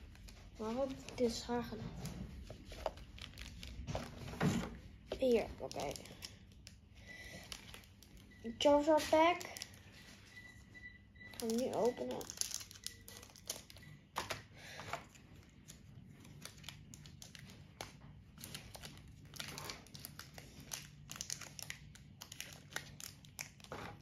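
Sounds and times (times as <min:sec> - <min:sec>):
foil wrapper crinkling: 0:00.0 - 0:04.4, 0:05.1 - 0:10.3, 0:11.3 - 0:24.0.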